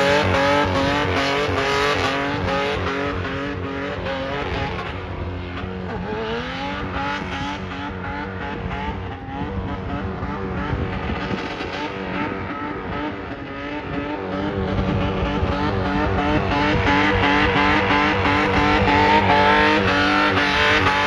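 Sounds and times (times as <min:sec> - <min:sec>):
suv engine revving: 0:00.0 - 0:21.0.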